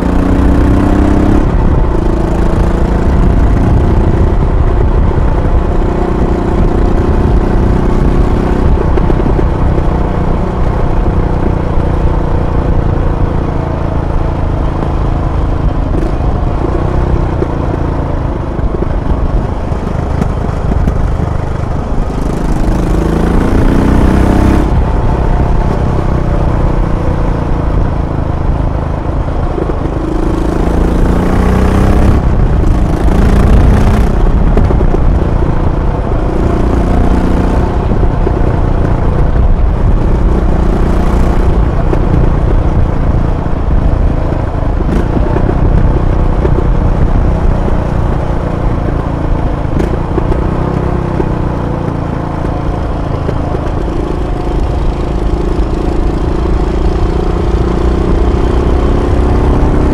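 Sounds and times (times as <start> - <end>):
motorcycle engine accelerating: 0.0 - 59.9
wind noise: 0.0 - 59.9.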